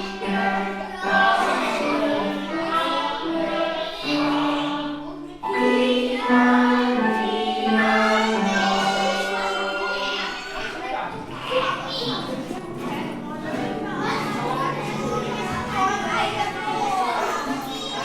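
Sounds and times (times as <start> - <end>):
children singing together: 0.0 - 18.0.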